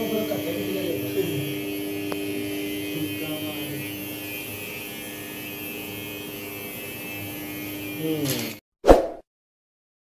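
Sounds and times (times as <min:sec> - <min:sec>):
electrical hum: 0:00.0 - 0:08.2.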